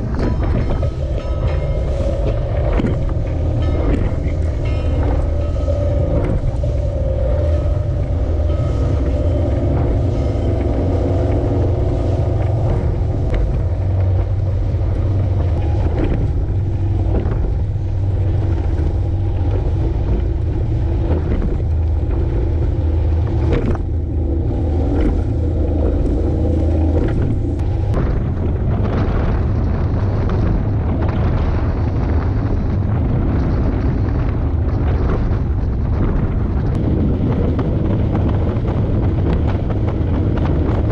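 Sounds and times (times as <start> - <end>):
boat engine droning: 0.0 - 40.9
hull slapping through water: 0.0 - 40.9
wind buffeting: 0.0 - 40.9.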